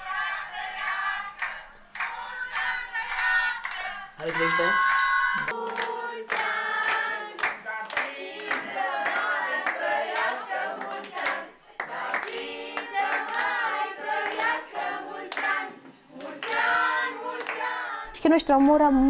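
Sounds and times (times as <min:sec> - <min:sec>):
group singing a birthday song: 0:00.0 - 0:18.7
people clapping in time: 0:01.4 - 0:17.9.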